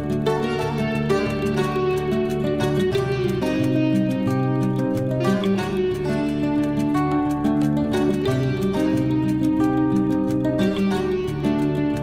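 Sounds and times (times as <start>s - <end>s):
gentle instrumental music: 0.0s - 12.0s.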